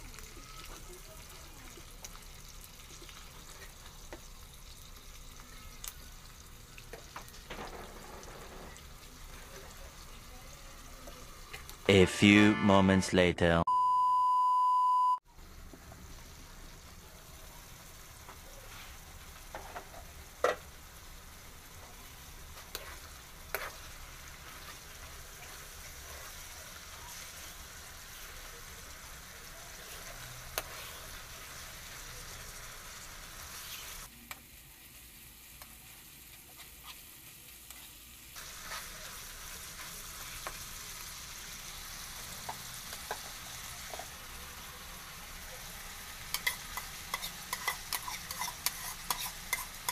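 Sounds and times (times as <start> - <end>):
meat sizzling in a frying pan: 0.0 - 11.9, 15.3 - 49.9.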